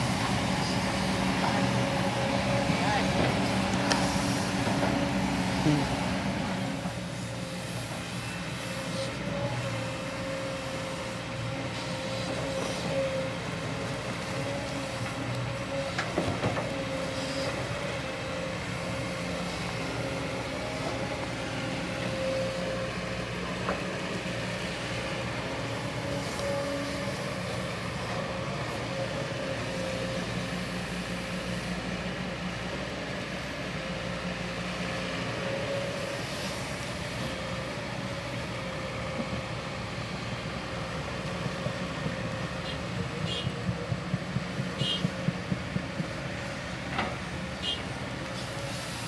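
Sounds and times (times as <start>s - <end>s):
excavator diesel engines running: 0.0s - 49.0s.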